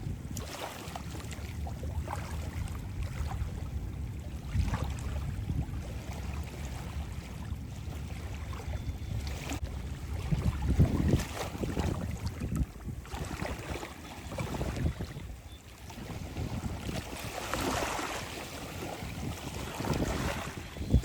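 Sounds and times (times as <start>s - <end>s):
sea water at the shore: 0.0s - 21.0s
wind buffeting microphone: 0.0s - 21.0s.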